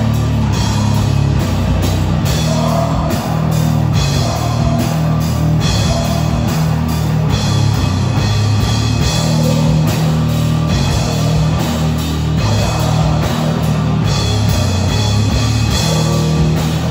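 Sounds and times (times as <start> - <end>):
rock band playing: 0.0 - 16.9.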